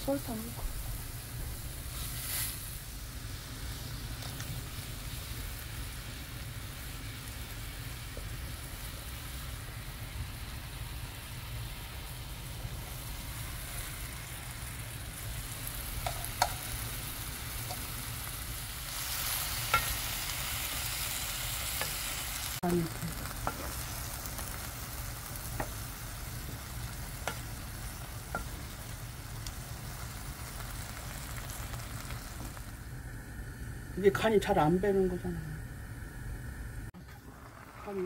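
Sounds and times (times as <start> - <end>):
food sizzling in a wok: 0.0 - 38.0.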